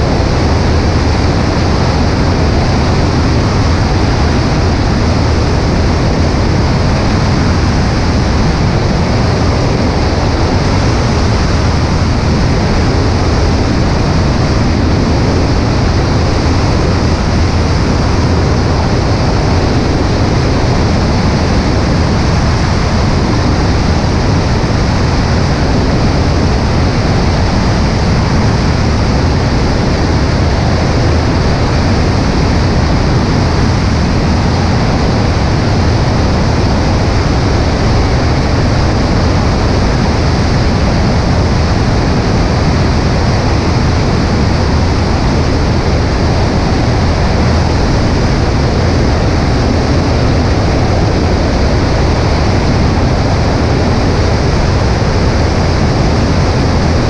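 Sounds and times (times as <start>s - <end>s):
airflow rushing over microphone: 0.0s - 57.0s
propeller plane engine running: 0.0s - 57.0s.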